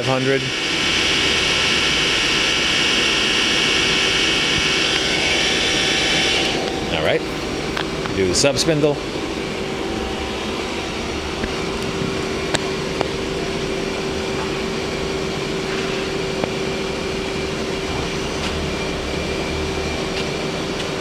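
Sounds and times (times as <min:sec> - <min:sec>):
machine hum with whine: 0:00.0 - 0:21.0.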